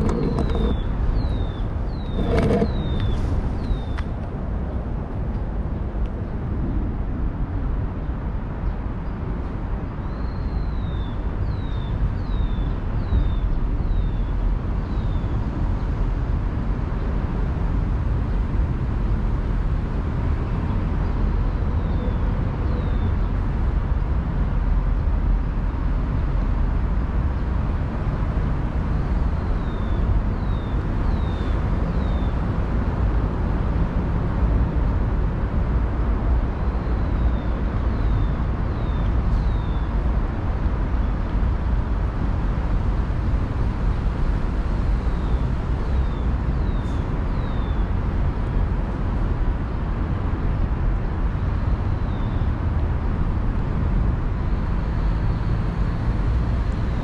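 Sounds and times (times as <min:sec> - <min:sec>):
distant city traffic rumble: 0:00.0 - 0:57.0.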